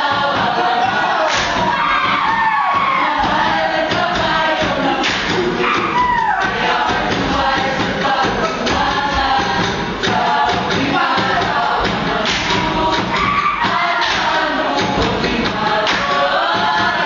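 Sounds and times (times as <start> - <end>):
chorus of voices singing: 0.0 - 17.0
fast percussive beat: 0.0 - 17.0.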